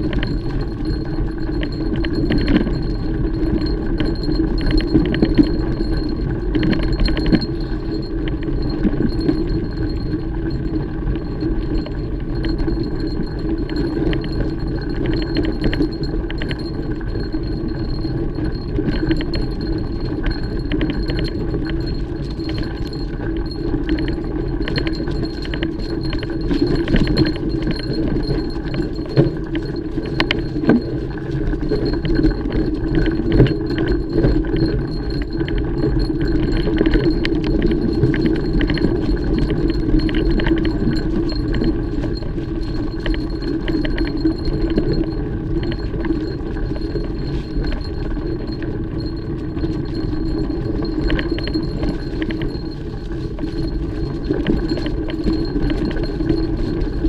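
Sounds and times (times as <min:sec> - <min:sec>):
bike tyres rumbling over ground: 0:00.0 - 0:56.8
bike chain clinking and rattling: 0:00.0 - 0:57.0.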